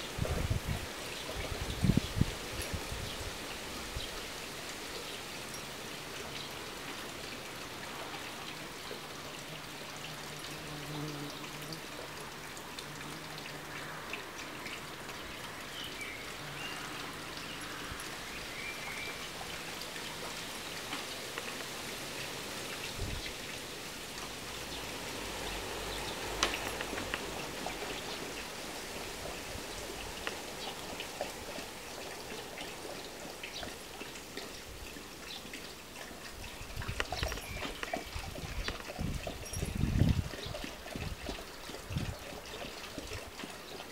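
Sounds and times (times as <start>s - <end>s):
hiss of water or light rain: 0.0s - 43.9s.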